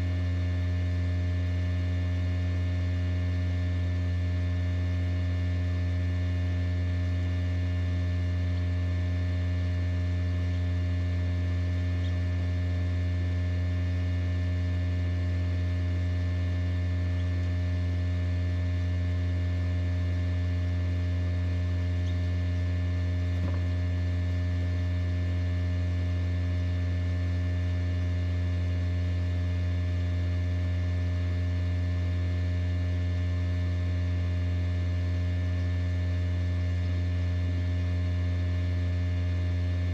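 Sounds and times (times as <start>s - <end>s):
incubator electrical hum: 0.0s - 39.9s.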